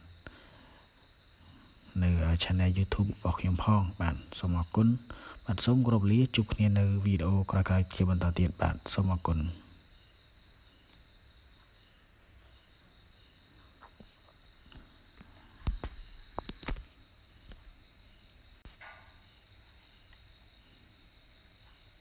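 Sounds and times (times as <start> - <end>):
high-pitched recording hiss: 0.0 - 22.0.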